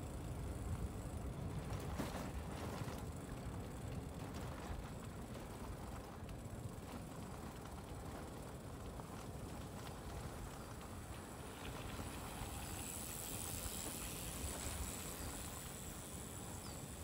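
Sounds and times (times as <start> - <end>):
tyre and wind rumble: 0.0 - 17.0.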